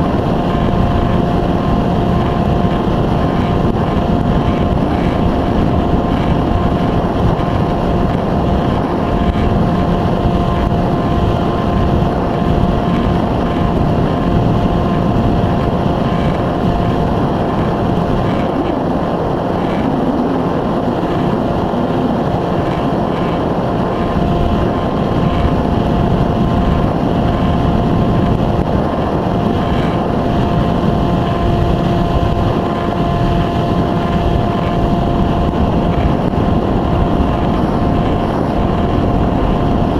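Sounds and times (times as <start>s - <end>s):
model plane motor whining: 0.0s - 39.9s
wind buffeting microphone: 0.0s - 39.9s.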